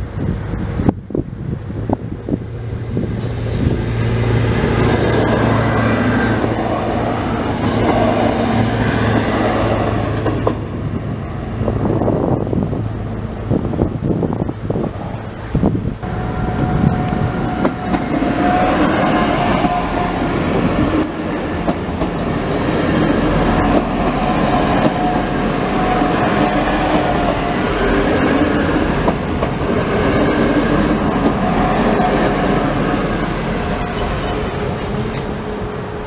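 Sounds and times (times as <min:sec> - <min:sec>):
train whine: 0:00.0 - 0:36.0
train wheels clacking on rail joints: 0:03.1 - 0:12.5, 0:15.3 - 0:36.0.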